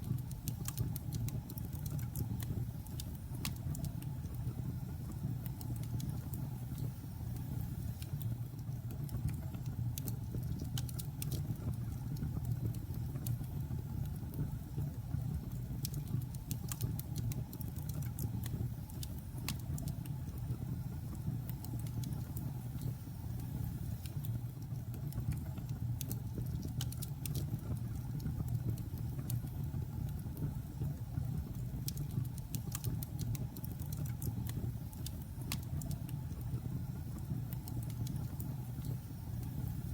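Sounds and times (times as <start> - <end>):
fire crackling and popping: 0.1 - 39.9.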